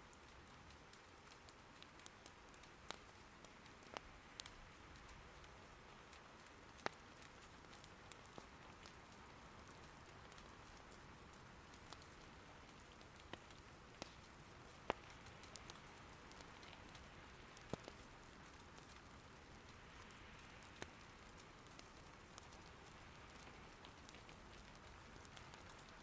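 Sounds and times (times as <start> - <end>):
soft rain: 0.0 - 26.0
firewood crackling pops: 0.8 - 26.0.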